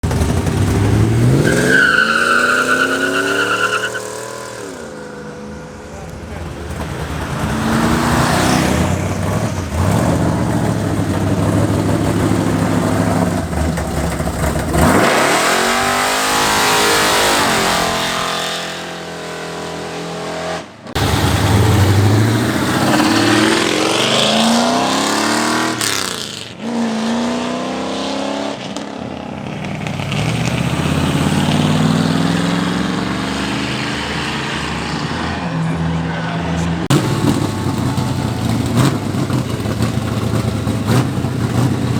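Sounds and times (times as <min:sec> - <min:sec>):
cars accelerating hard: 0:00.0 - 0:41.9.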